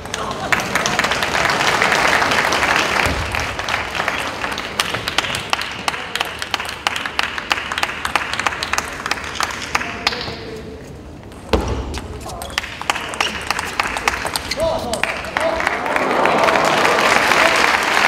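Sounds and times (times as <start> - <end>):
spectators applauding: 0.0 - 10.1, 12.5 - 18.0.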